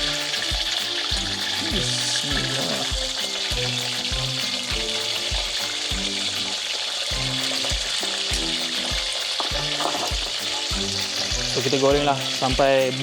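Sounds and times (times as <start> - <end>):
background music with low beat: 0.0 - 13.0
tofu sizzling in hot oil: 0.0 - 13.0.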